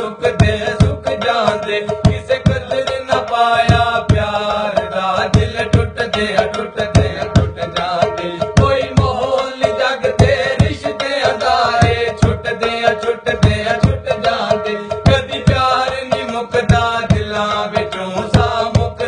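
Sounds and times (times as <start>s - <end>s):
man singing: 0.0s - 19.0s
hand drum beat with deep bass: 0.2s - 19.0s.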